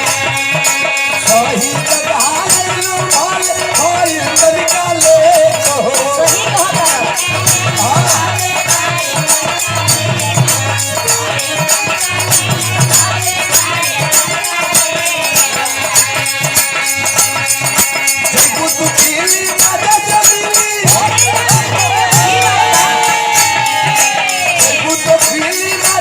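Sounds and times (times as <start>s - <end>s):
rattling percussion: 0.0s - 26.0s.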